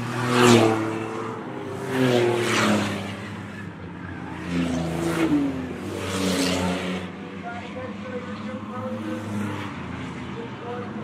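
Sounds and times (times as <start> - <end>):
race cars passing at full throttle: 0.0 - 11.0.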